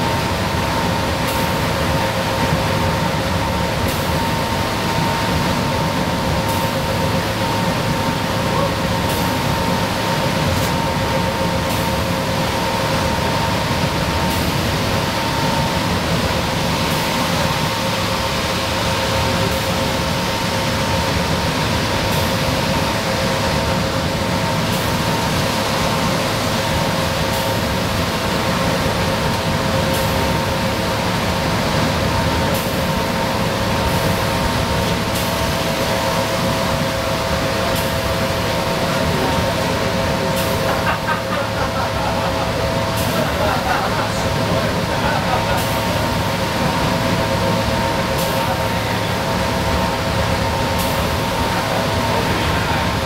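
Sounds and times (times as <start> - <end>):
bus diesel engine running: 0.0 - 53.0
steady whine: 0.0 - 53.0
tyres hissing on wet pavement: 0.0 - 53.0.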